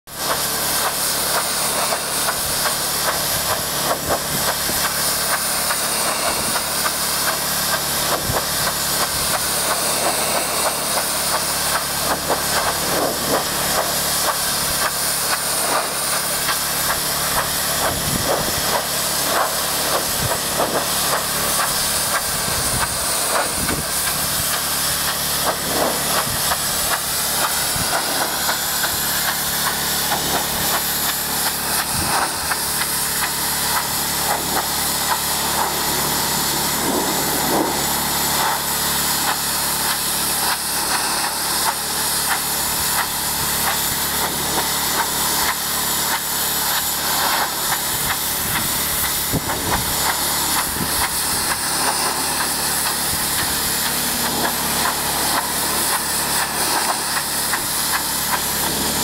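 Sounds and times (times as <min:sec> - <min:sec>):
pump engine running: 0:00.1 - 0:59.0
water spray hissing on roof: 0:00.1 - 0:59.0.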